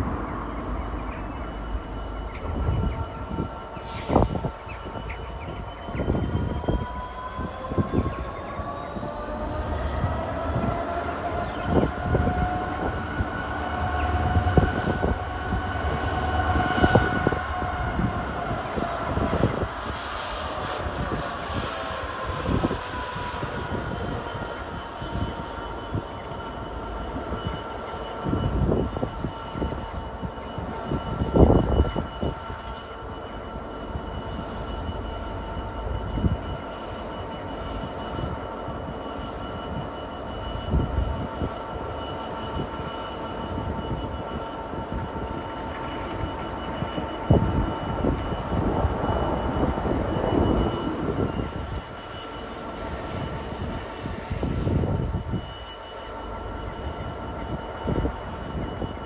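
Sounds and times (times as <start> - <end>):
diesel freight train rumbling: 0.0 - 59.0
whining tones: 0.0 - 59.0.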